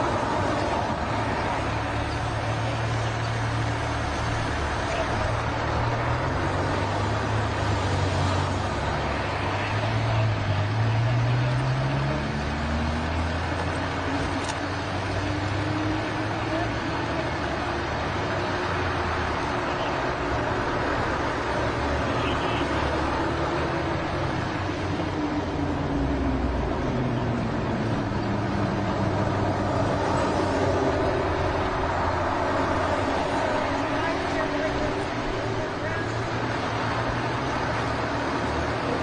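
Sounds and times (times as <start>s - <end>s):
vehicle accelerating: 0.0s - 39.0s
vehicle engines running: 0.0s - 39.0s.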